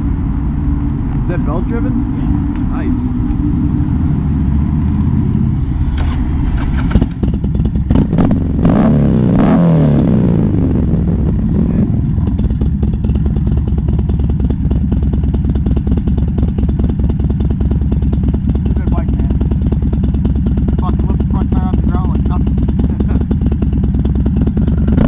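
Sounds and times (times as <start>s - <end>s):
motorcycle engine revving and idling: 0.0s - 25.0s.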